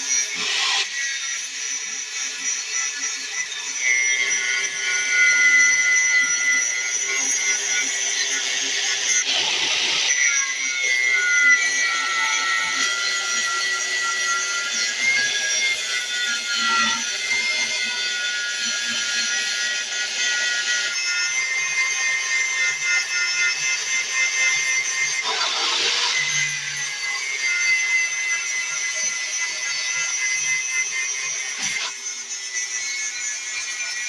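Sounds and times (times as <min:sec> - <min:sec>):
angle grinder whine: 0:00.0 - 0:34.0.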